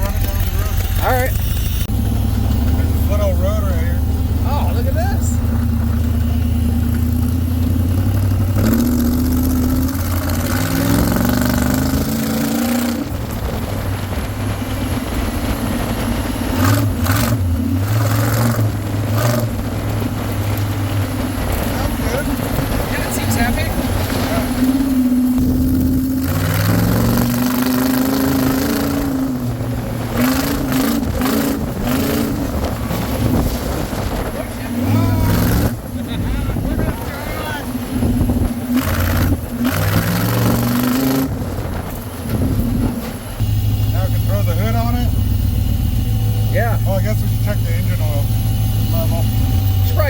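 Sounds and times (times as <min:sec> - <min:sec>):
mud buggy engine accelerating: 0:00.0 - 0:50.0.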